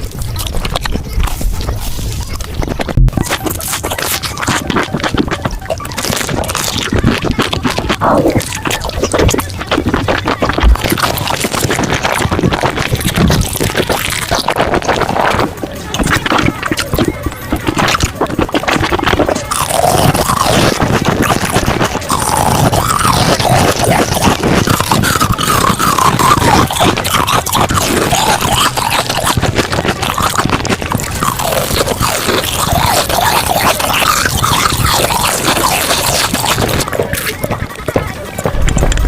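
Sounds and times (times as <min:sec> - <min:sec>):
crunching and chewing snacks: 0:00.0 - 0:39.0.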